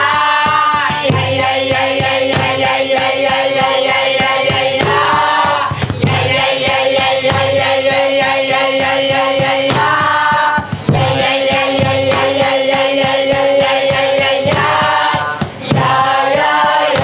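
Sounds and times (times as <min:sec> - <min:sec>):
group of voices singing: 0:00.0 - 0:17.0
steady percussive beat: 0:00.0 - 0:17.0.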